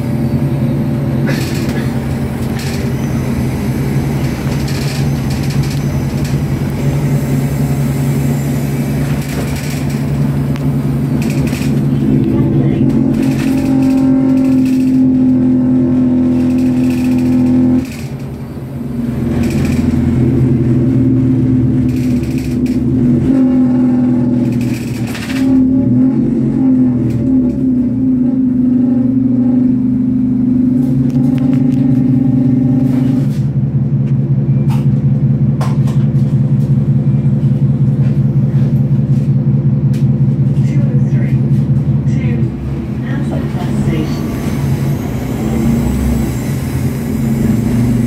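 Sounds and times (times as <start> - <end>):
bus diesel engine: 0.0 - 48.0
bus interior rattles: 0.0 - 48.0.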